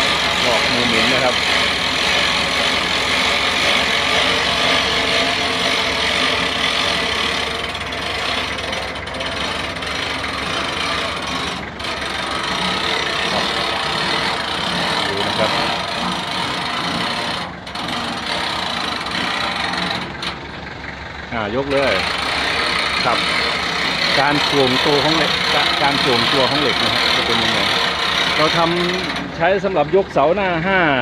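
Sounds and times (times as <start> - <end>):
winch ratchet clicking: 0.0 - 20.5, 21.7 - 29.5.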